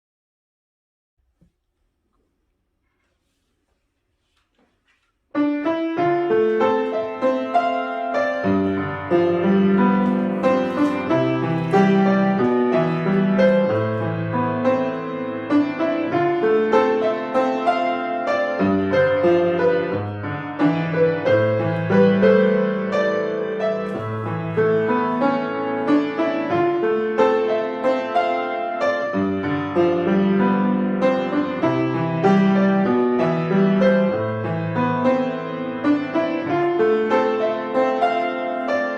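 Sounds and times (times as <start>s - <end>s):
solo piano piece: 5.3s - 38.9s.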